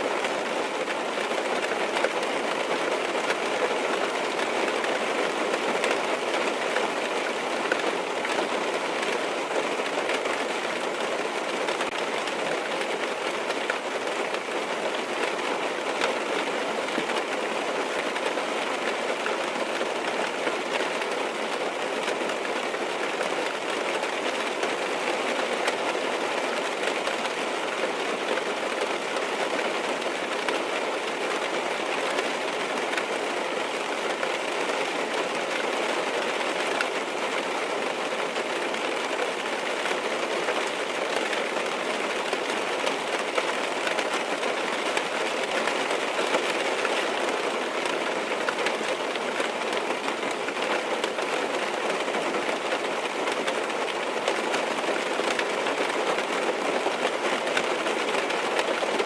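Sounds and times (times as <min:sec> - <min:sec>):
rain on car roof and glass: 0:00.0 - 0:59.0.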